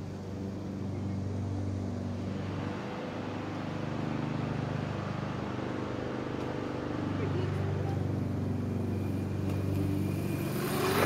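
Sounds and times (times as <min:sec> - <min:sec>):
dirt bike engine running: 0:02.0 - 0:11.0.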